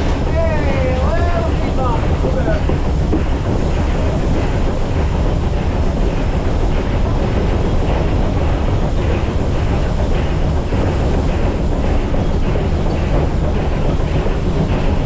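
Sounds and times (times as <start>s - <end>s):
steam locomotive rumble: 0.0s - 15.0s.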